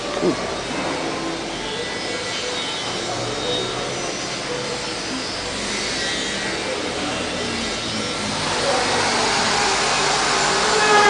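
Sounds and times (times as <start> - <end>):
faint voices: 0.0 - 10.2.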